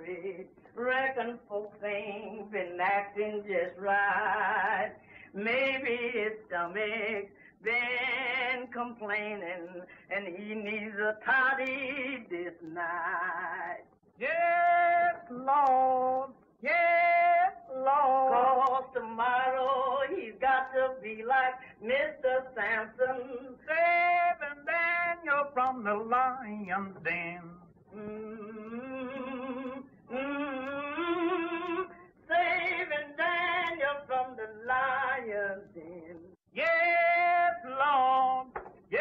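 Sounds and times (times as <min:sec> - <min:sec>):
woman singing unaccompanied: 0:00.0 - 0:39.0.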